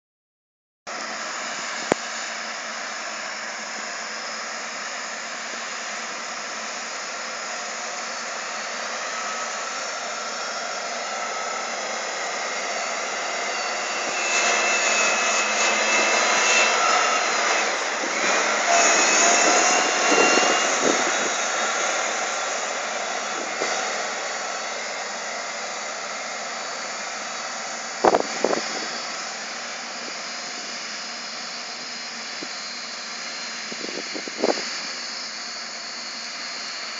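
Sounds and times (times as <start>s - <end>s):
whine: 0.9s - 36.9s.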